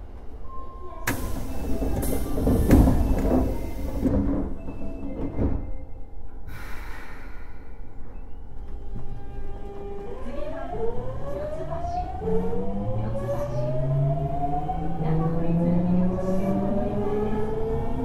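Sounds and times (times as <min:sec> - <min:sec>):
subway door and car noise: 0:00.0 - 0:18.0.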